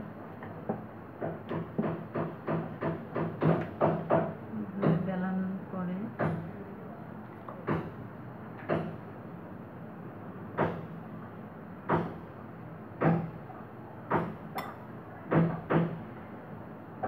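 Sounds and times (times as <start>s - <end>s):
steady low background hum: 0.0s - 17.0s.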